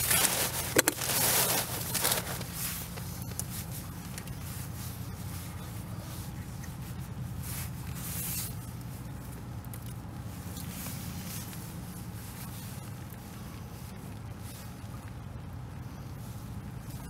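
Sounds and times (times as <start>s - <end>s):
rustling hiss: 0.0s - 17.0s.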